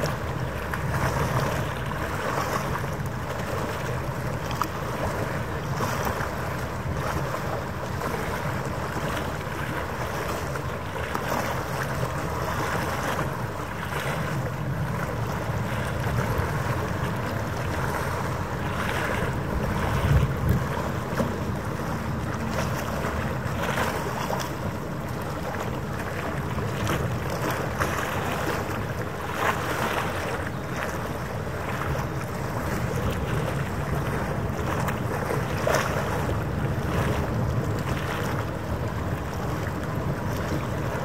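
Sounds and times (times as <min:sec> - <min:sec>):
rushing water: 0:00.0 - 0:41.0
wind buffeting microphone: 0:00.0 - 0:41.0.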